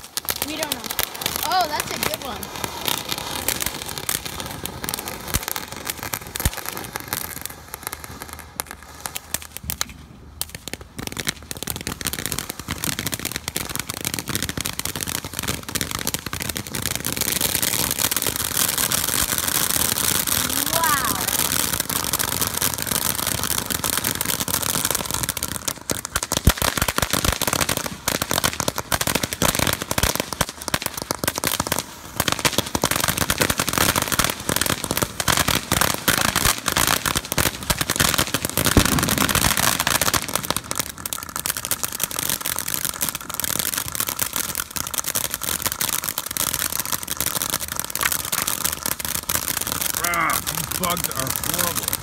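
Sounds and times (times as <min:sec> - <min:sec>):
firework cracks: 0:00.0 - 0:52.0
firework fountain hissing and crackling: 0:00.0 - 0:52.0.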